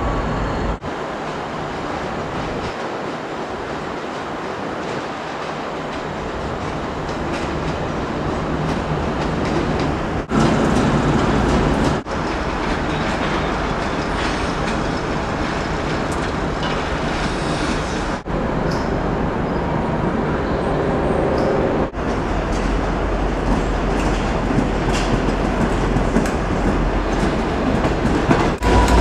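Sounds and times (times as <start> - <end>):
diesel train engines running: 0.0 - 29.0
train wheels rolling on rails: 0.0 - 29.0.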